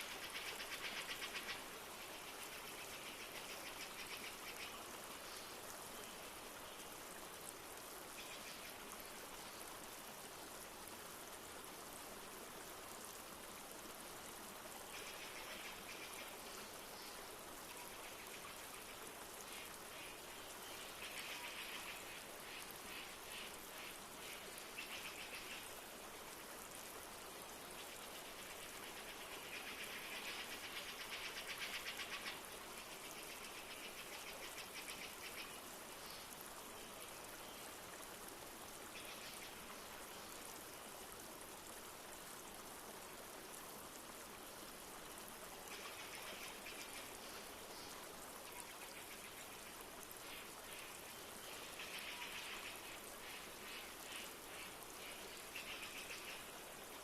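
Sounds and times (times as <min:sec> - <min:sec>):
forest stream flowing: 0:00.0 - 0:57.0
light rain falling: 0:00.0 - 0:57.0.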